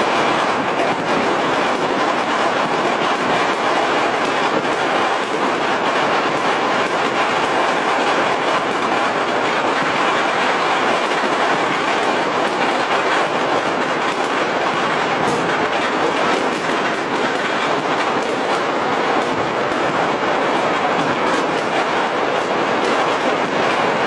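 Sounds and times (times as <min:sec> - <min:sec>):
firecrackers and fireworks popping: 0:00.0 - 0:24.0.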